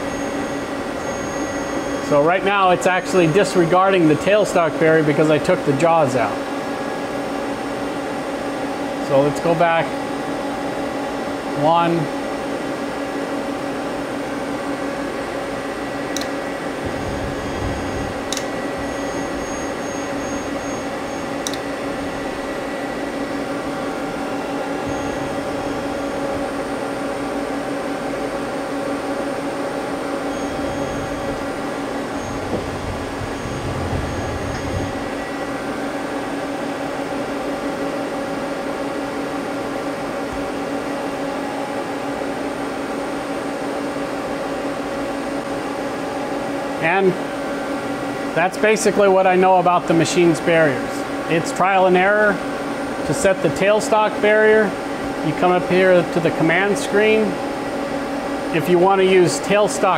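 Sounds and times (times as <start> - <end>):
lathe machine humming: 0.0 - 59.9.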